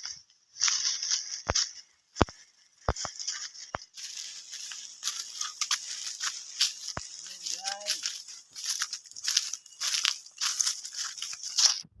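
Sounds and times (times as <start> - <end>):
rustling noise: 0.0 - 11.9.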